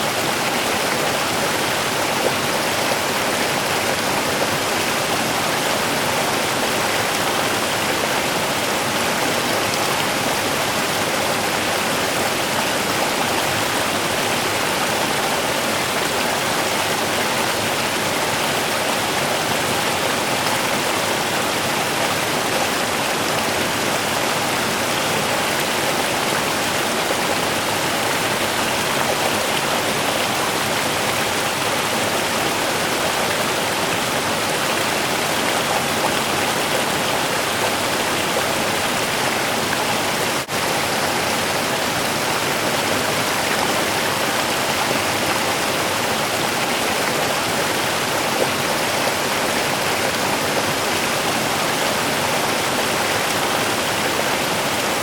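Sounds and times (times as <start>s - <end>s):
river babbling over stones: 0.0s - 55.0s.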